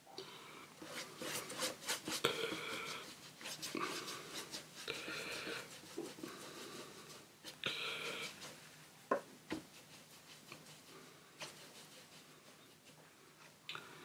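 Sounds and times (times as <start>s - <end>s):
brush scratching on paper: 0.8s - 13.5s.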